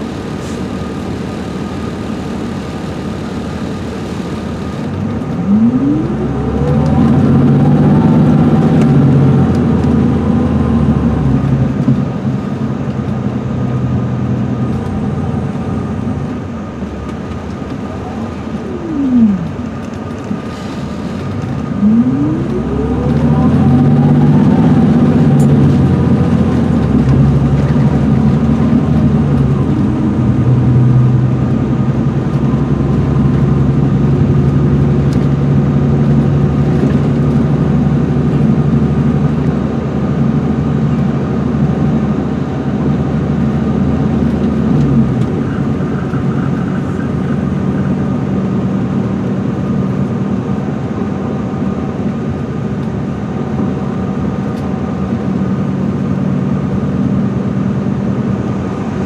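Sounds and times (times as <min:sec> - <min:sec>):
bus engine running: 0:00.0 - 0:59.0
transmission whine: 0:00.0 - 0:59.0.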